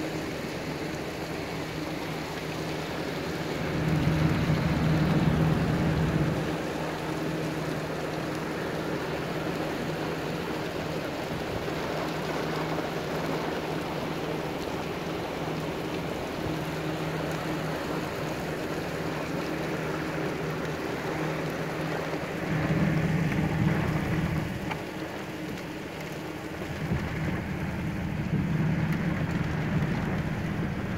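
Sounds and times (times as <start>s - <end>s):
heavy rain falling: 0.0s - 30.9s
low hum: 0.2s - 10.3s, 11.6s - 30.9s.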